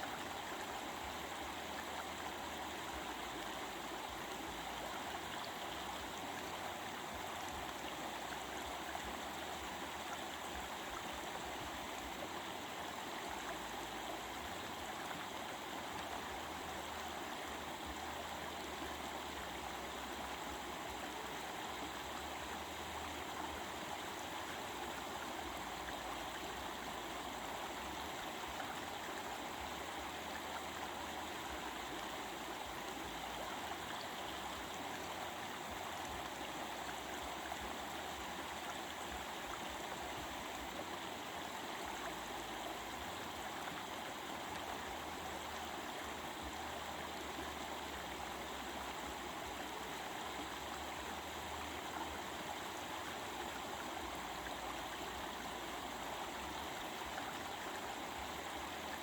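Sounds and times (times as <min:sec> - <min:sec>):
stream of water babbling: 0:00.0 - 0:59.0.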